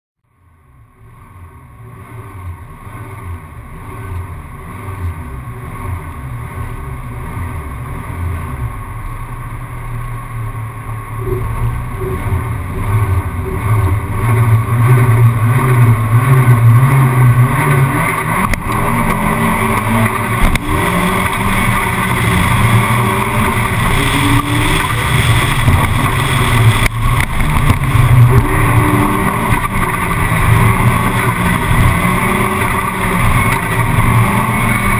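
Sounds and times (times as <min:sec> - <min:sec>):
car engine running: 0:00.2 - 0:34.9.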